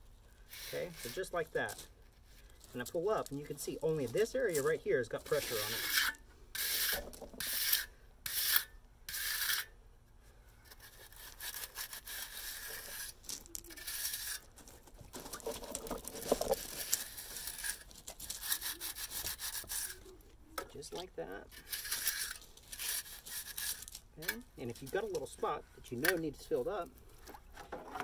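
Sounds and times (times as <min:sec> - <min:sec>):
trowel scraping wet concrete: 0:00.5 - 0:01.7, 0:02.8 - 0:09.8, 0:10.6 - 0:26.8.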